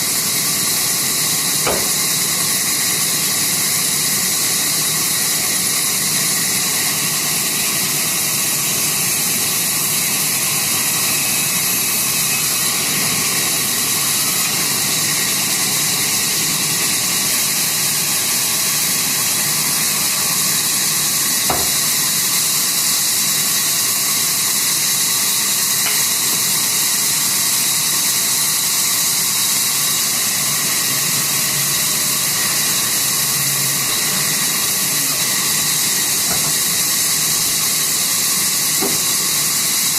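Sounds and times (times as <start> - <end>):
sawmill saw hissing and whining: 0.0 - 39.9.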